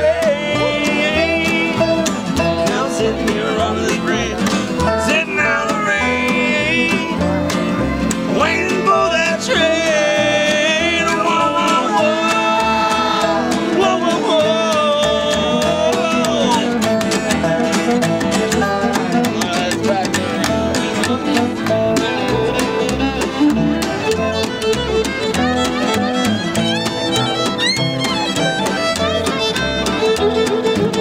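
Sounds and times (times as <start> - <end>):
fiddle: 0.0 - 31.0
strummed acoustic guitar: 0.0 - 31.0
upright bass: 0.0 - 31.0.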